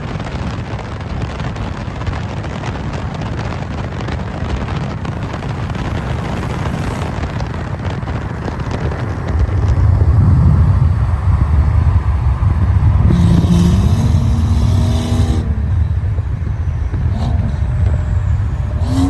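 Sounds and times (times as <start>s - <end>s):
car exhaust low rumble: 0.0s - 19.0s.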